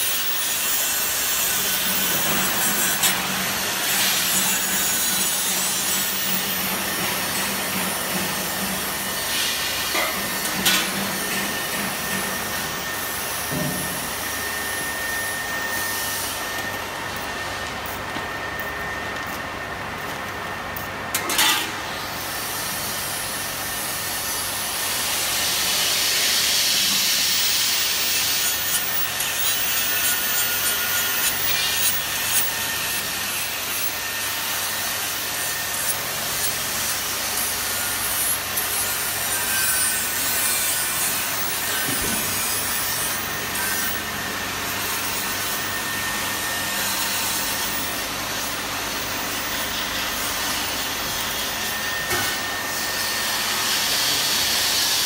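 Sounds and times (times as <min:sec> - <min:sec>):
vacuum machine pump running: 0:01.0 - 0:55.0.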